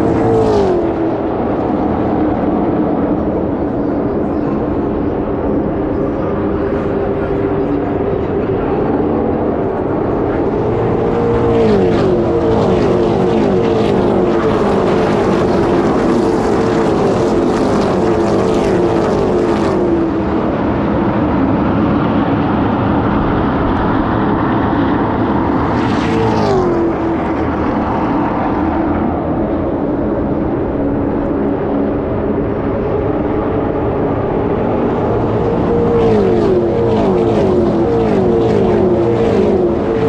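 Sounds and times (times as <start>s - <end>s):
race car engines passing: 0.0s - 40.0s.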